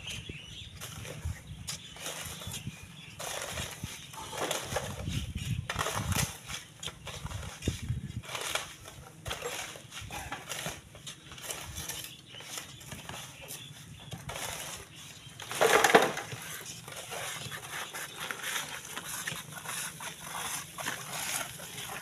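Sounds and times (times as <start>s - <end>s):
iron bars scraping sand and gravel: 0.8s - 22.0s.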